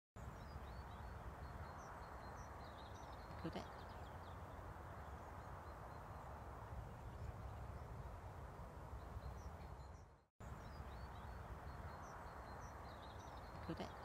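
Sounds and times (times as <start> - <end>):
wind: 0.2 - 14.0.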